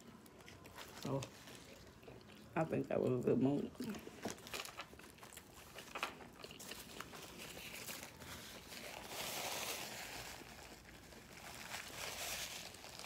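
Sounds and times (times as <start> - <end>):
paper napkin crinkling: 0.0 - 2.0, 3.9 - 13.0.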